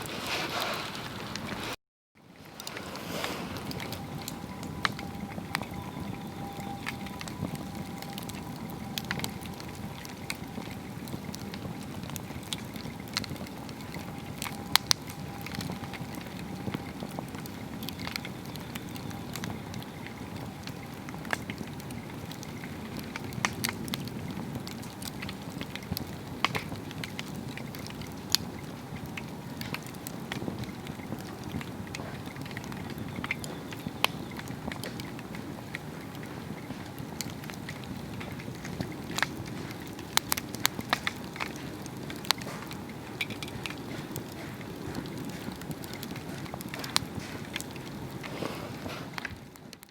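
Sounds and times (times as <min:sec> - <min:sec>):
fire crackles and pops: 0:00.0 - 0:49.9
log fire rushing flame: 0:00.0 - 0:49.9.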